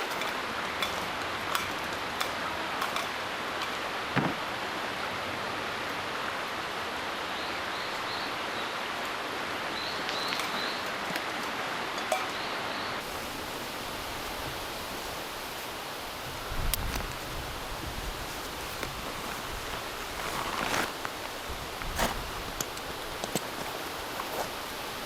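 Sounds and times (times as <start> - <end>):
strong wind through trees: 0.0 - 25.0.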